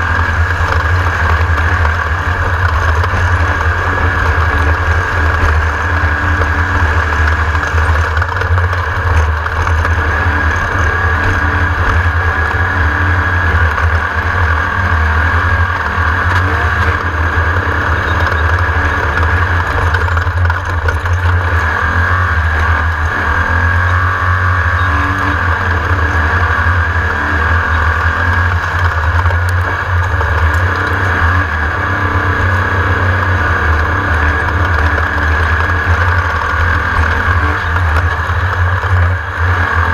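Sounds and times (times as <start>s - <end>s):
buggy engine running hard: 0.0s - 39.9s.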